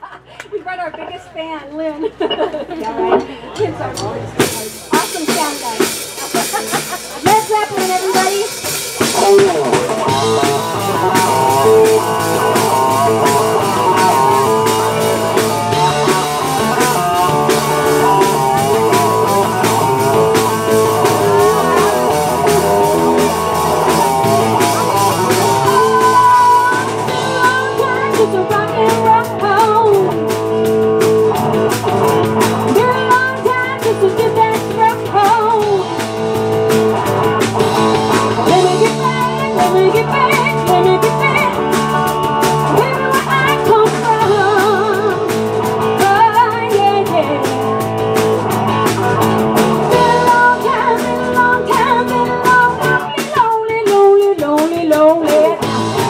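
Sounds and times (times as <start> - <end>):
electric and acoustic guitars: 0.2 - 56.0
drum kit: 2.3 - 56.0
woman singing lead: 4.4 - 30.3, 32.4 - 36.0, 37.8 - 47.8, 49.6 - 56.0.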